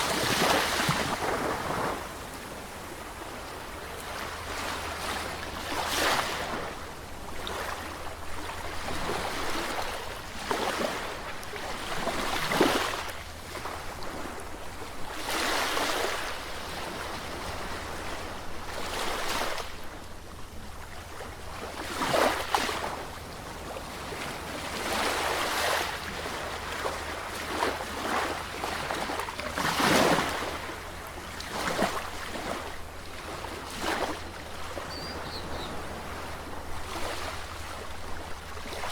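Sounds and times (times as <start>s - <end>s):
sea waves breaking on shore: 0.0s - 20.0s, 20.8s - 38.9s.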